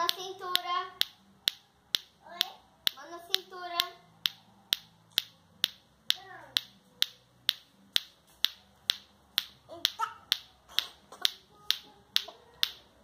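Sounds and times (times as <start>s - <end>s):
plastic balls clacking together: 0.0s - 13.0s.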